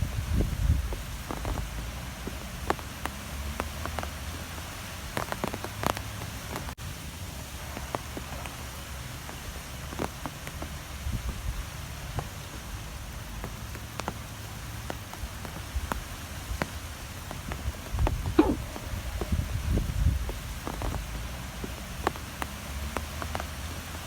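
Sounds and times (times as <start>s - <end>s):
wind rumbling on microphone: 0.0s - 12.9s, 15.1s - 24.0s.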